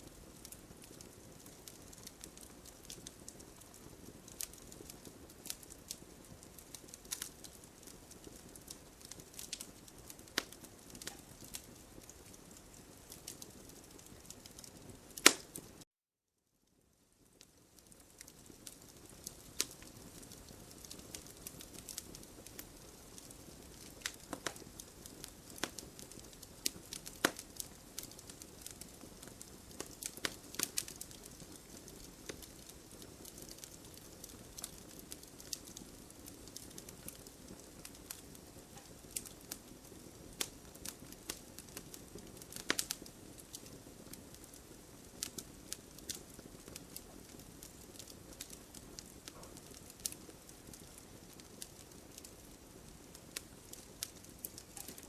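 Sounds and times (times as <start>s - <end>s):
campfire wood crackling and popping: 0.0s - 15.8s, 16.7s - 55.0s
soft hiss of flames: 0.0s - 15.8s, 16.6s - 55.0s.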